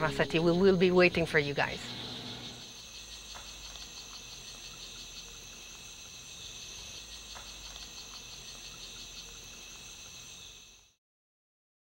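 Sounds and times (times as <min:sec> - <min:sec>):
insects buzzing: 0:00.0 - 0:11.0
insects pulsing trill: 0:00.0 - 0:11.0.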